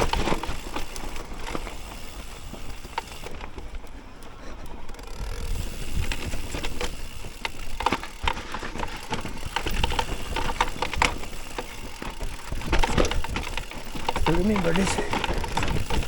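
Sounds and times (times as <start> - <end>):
mountain bike rattling over rough ground: 0.0 - 16.0.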